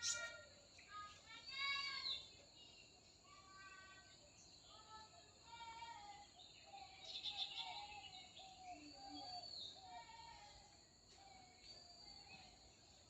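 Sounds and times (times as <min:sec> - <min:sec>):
faint birds calling: 0:00.0 - 0:13.0.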